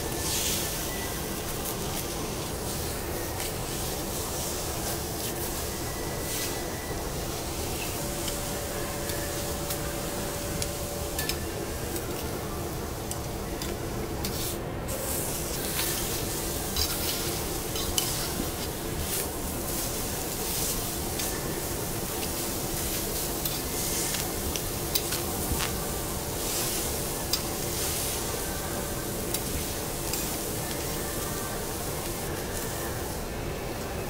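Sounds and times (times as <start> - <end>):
meat sizzling on a griddle: 0.0 - 13.7, 14.3 - 33.4.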